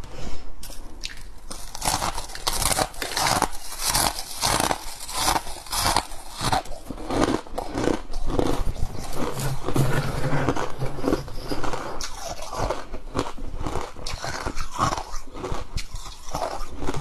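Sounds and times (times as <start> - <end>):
ice crunching being chewed: 0.6 - 17.0.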